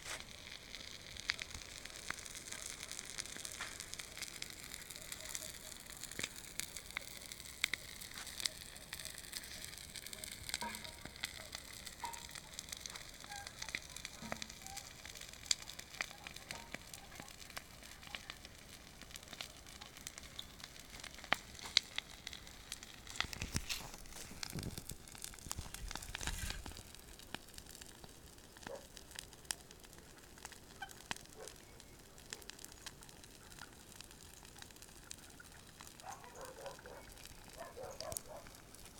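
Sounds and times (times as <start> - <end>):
bonfire crackling and popping: 0.0 - 38.9.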